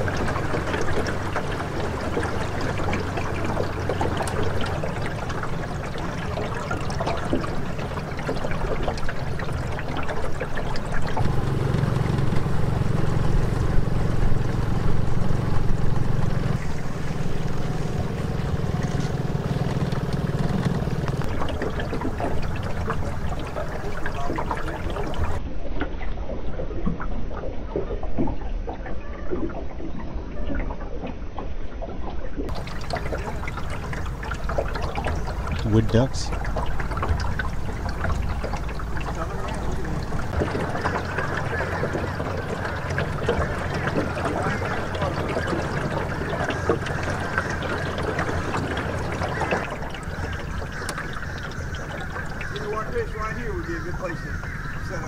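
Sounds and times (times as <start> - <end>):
outboard motor running: 0.0 - 25.4, 32.5 - 55.0
water rushing and splashing: 0.0 - 28.4, 31.8 - 55.0.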